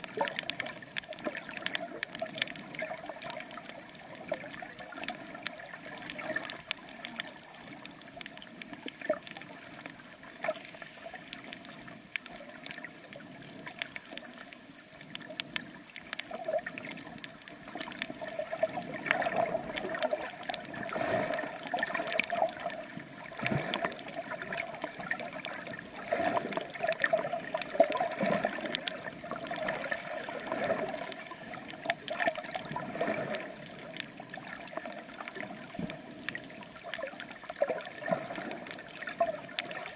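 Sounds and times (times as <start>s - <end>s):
water gurgling and sloshing: 0.0s - 39.9s.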